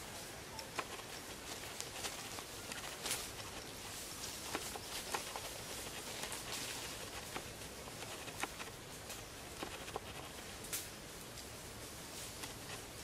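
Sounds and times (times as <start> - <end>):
outdoor hiss: 0.0 - 13.0
twigs and leaves snapping: 0.1 - 11.4.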